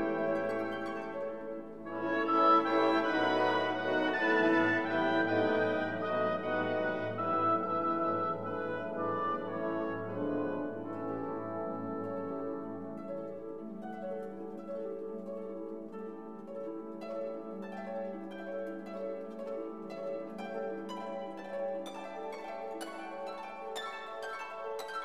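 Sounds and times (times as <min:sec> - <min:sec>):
plucked harp-like melody: 0:00.0 - 0:25.0.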